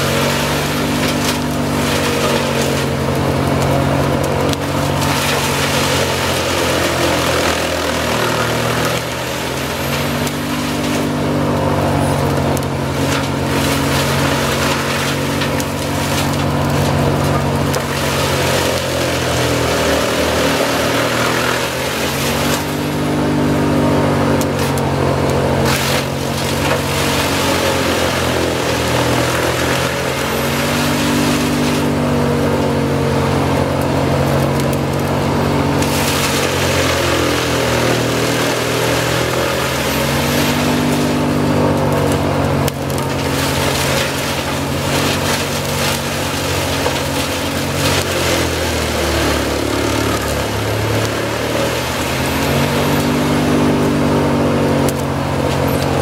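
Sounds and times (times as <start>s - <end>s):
branches crackling as shredded: 0.0s - 56.0s
wood chipper engine din: 0.0s - 56.0s.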